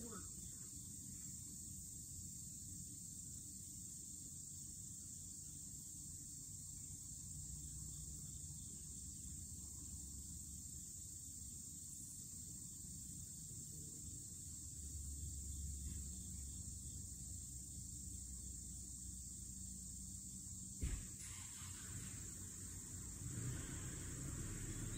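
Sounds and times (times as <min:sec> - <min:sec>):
insect drone: 0:00.0 - 0:24.9.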